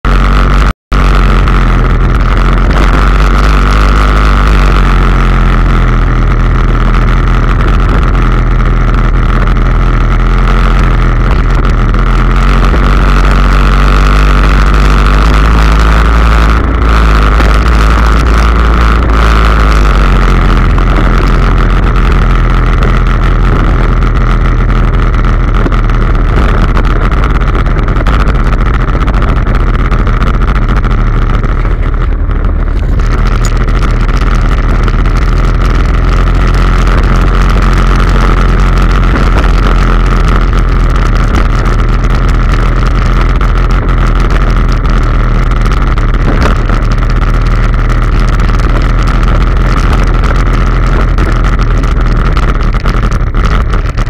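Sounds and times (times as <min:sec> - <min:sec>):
atv engine running: 0:00.0 - 0:54.0
steady whine: 0:00.0 - 0:54.0.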